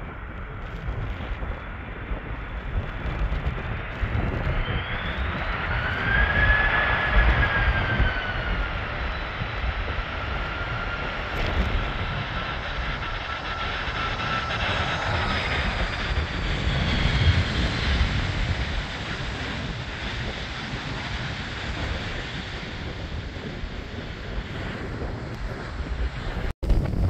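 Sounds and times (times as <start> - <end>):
jet engines roaring and whining: 0.0 - 27.0
wind rumbling on microphone: 0.0 - 27.0.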